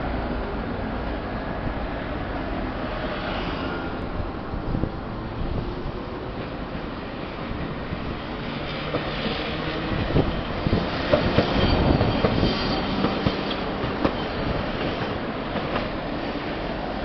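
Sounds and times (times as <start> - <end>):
streetcar passing: 0.0 - 17.0.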